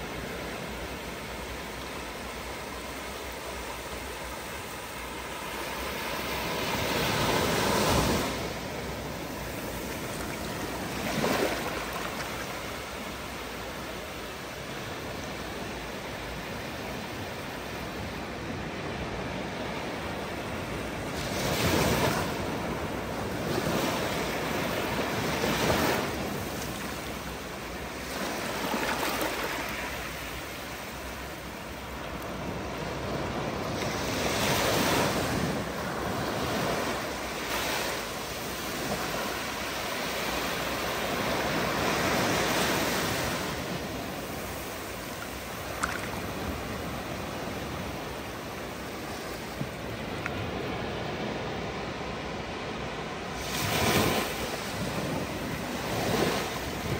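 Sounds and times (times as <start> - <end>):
ocean waves washing on beach: 0.0 - 56.9.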